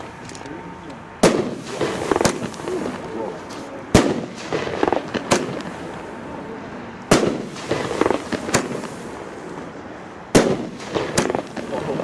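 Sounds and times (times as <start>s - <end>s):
fireworks crackling: 0.0s - 12.0s
fireworks bangs: 1.2s - 6.1s, 7.1s - 12.0s.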